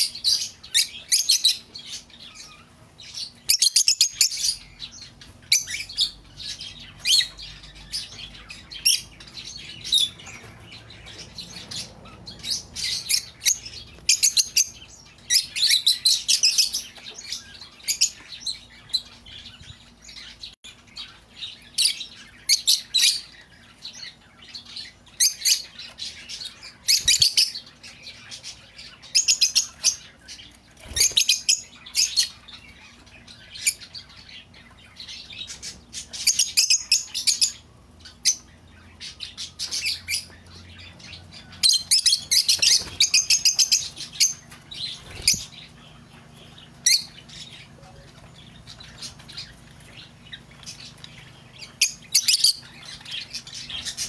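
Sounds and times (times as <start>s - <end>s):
birds chirping chatter: 0.0s - 54.0s.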